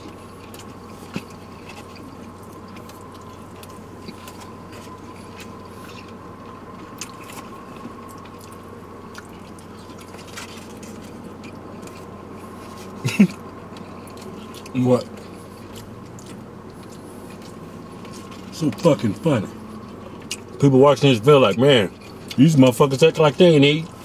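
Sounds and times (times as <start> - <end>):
people chewing food: 0.0 - 24.0
steady low hum: 0.0 - 24.0.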